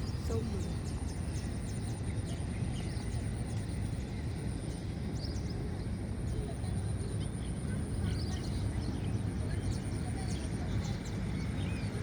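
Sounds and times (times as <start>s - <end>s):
faint bird chirps: 0.0s - 12.0s
steady low rumble: 0.0s - 12.0s.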